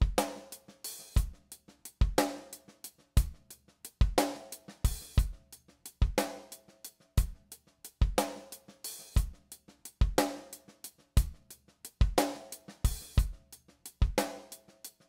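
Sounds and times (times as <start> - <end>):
kick and snare drum beat: 0.0 - 15.0.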